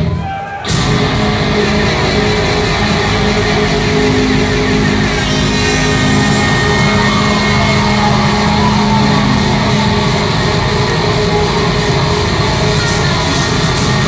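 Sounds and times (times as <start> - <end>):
distorted guitars: 0.0 - 14.0
drums: 0.0 - 14.0.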